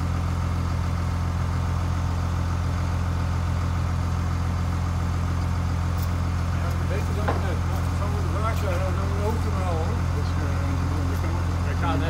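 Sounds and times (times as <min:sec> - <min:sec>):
crane engine humming: 0:00.0 - 0:12.0.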